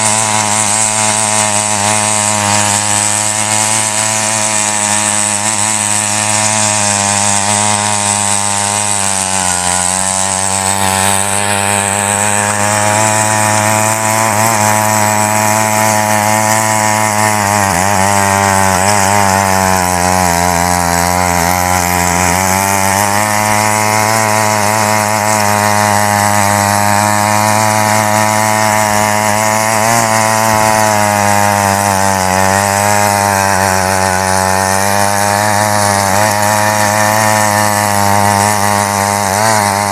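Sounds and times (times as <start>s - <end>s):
tiller engine churning soil: 0.0s - 39.9s.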